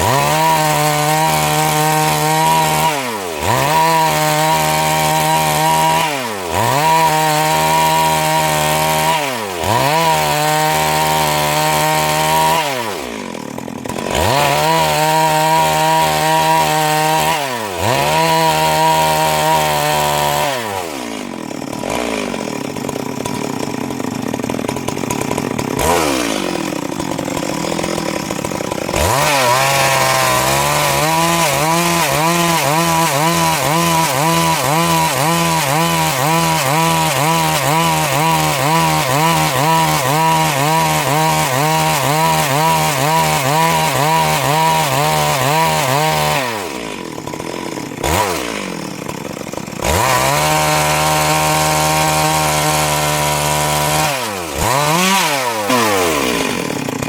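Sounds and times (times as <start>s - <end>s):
chainsaw idling: 0.0s - 57.0s
chainsaw revving and cutting log: 0.0s - 57.0s.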